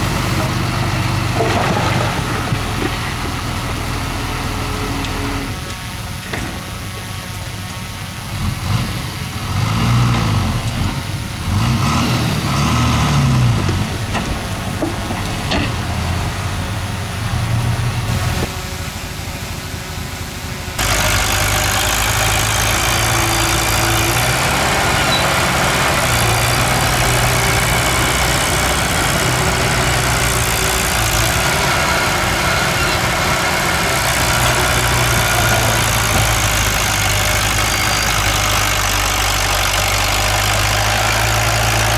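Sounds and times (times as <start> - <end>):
earthmoving machine diesel engine: 0.0 - 41.9.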